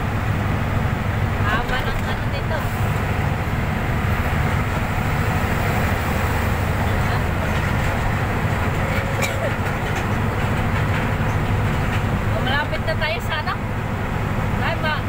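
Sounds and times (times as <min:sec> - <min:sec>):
vehicle driving at highway speed: 0:00.0 - 0:15.0.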